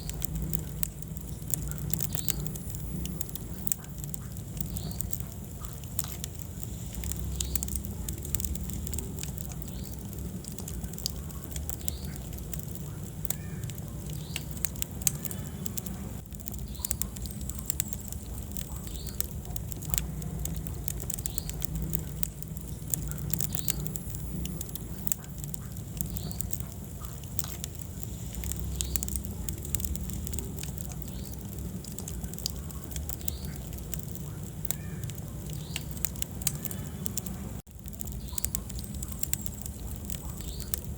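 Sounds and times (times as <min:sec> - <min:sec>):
fire crackles and pops: 0:00.0 - 0:40.9
low rumble of flames: 0:00.0 - 0:40.9.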